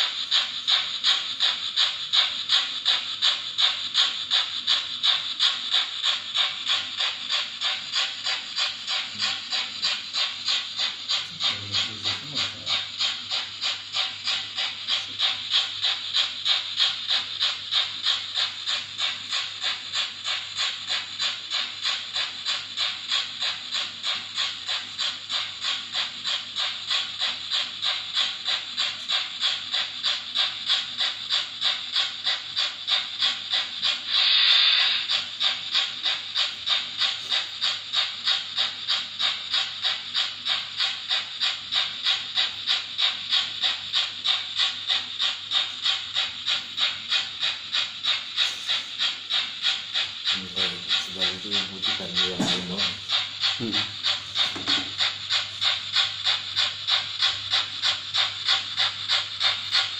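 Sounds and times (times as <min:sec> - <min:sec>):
model locomotive steam chuffs: 0:00.0 - 0:59.9
steam hiss: 0:00.0 - 0:59.9.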